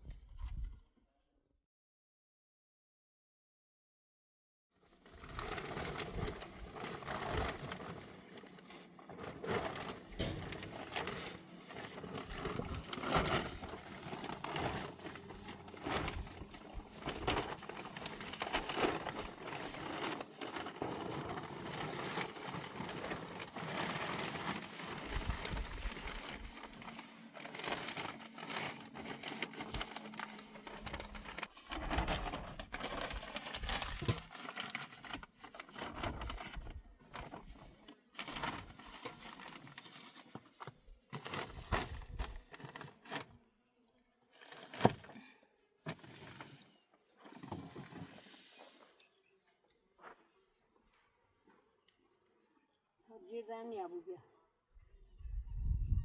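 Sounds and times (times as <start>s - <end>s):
rustling and crinkling: 5.0s - 43.5s, 44.3s - 51.8s.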